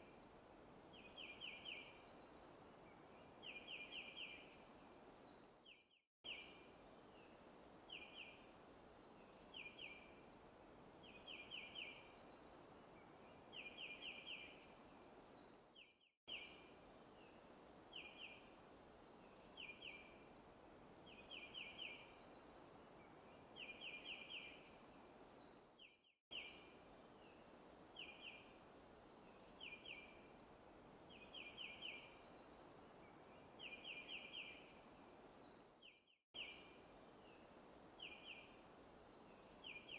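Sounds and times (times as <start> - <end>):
soft steady hiss: 0.0 - 39.9.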